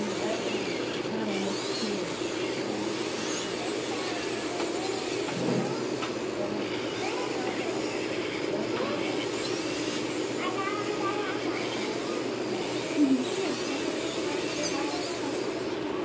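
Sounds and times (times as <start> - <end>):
electric nail drill grinding: 0.0 - 16.0.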